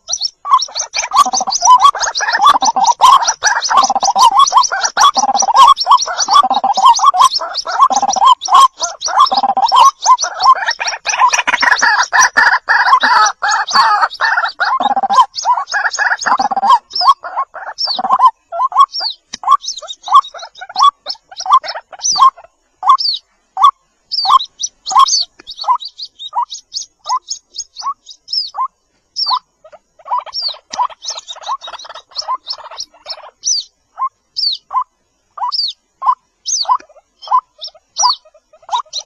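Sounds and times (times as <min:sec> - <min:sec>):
waterhen calling: 0:00.0 - 0:39.0.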